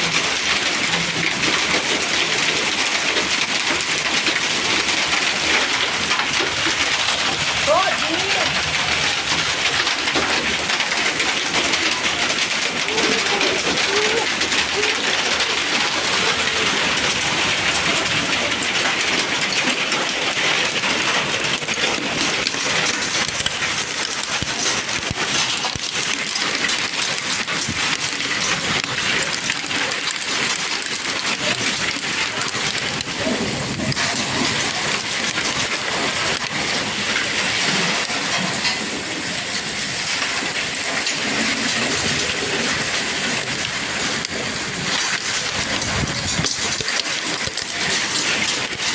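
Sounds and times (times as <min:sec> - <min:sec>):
falling ice and rain: 0:00.0 - 0:48.9
hailstones clattering on hard surfaces: 0:00.0 - 0:48.9.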